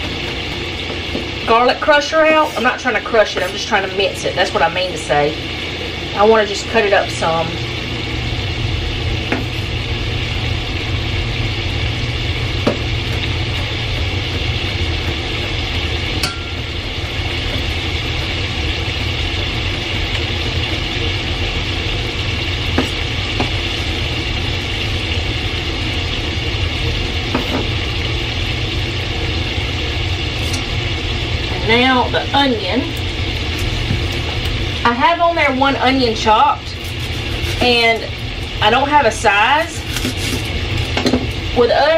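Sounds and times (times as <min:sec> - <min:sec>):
low hum: 0:00.0 - 0:41.9
sausage sizzling in skillet: 0:00.0 - 0:41.9.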